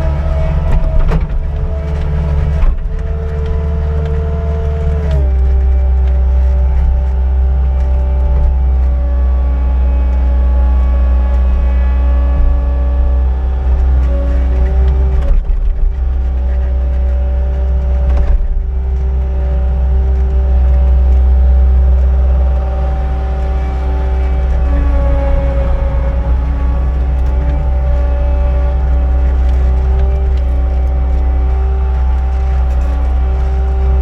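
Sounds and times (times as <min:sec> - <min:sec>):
heavy engine running: 0:00.0 - 0:34.0.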